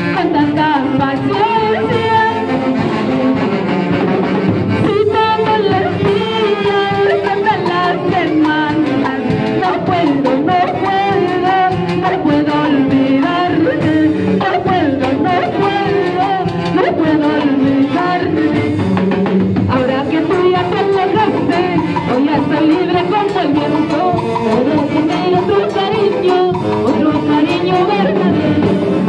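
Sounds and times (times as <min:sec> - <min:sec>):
woman singing into a microphone: 0:00.0 - 0:03.3, 0:04.8 - 0:18.8, 0:19.7 - 0:29.0
saxophone band playing: 0:00.0 - 0:29.0
timbales and drum kit beat: 0:00.0 - 0:29.0.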